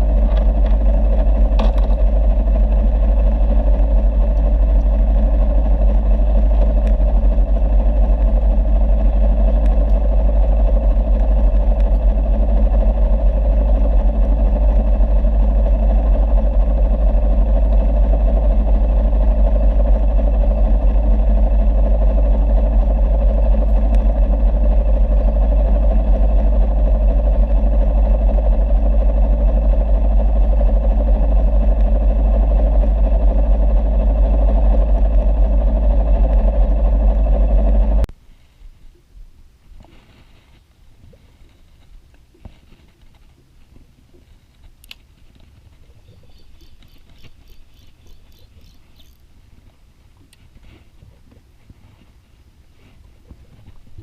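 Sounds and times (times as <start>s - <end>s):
boat engine droning: 0.0s - 38.3s, 39.8s - 54.0s.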